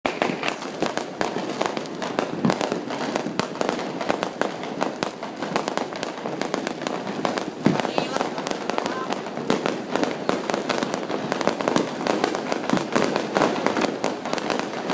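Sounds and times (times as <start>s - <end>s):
deep firework bang: 0.1s - 14.9s
fireworks bangs and crackling: 0.1s - 14.9s.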